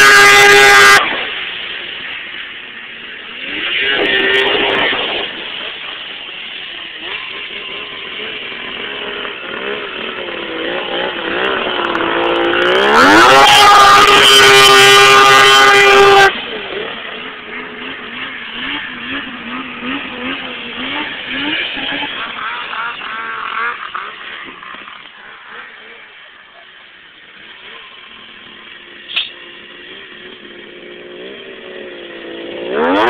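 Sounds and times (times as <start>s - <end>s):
snowmobile engine at high revs: 0.0s - 33.0s.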